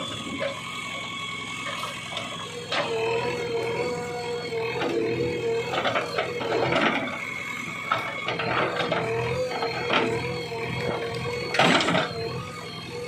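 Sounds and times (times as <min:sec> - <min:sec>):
diesel engine running with whine: 0:00.0 - 0:13.0.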